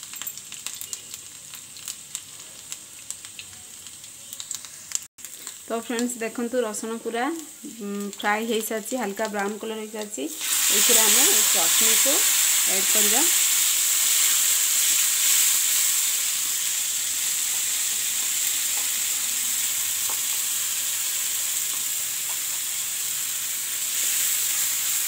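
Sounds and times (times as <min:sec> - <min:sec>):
chutney sizzling in hot oil: 0:00.0 - 0:25.0.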